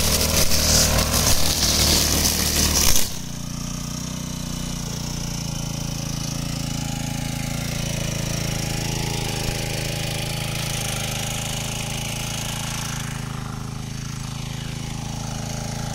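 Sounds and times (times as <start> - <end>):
brush cutter engine running: 0.0 - 15.9
cutting head trimming grass: 0.0 - 15.9.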